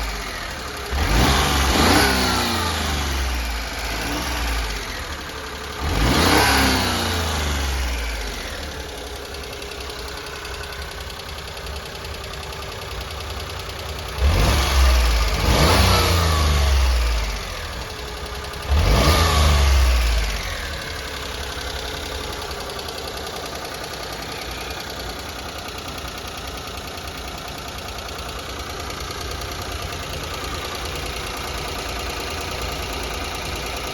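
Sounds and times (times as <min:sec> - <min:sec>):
small engine idling and revving: 0:00.0 - 0:33.9.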